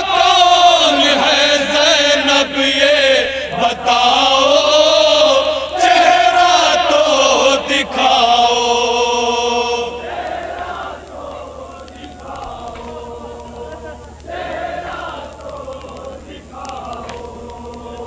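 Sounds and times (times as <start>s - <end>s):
men chanting a lament in unison: 0.0s - 18.0s.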